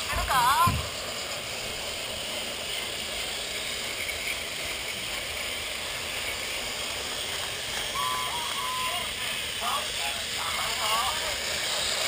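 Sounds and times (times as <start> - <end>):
toy trains running on plastic track: 0.0 - 12.0.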